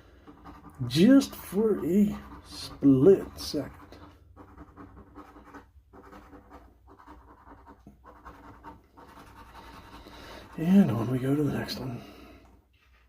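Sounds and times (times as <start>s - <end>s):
lottery ticket being scratched: 0.2s - 11.9s.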